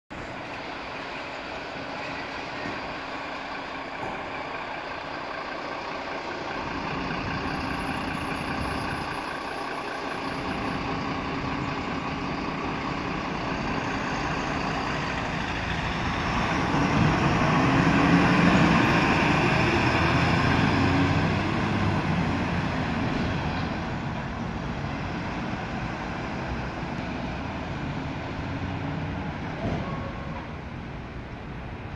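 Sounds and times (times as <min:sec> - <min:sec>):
diesel engines idling: 0:00.1 - 0:31.9
fire truck engine passing: 0:00.1 - 0:31.9.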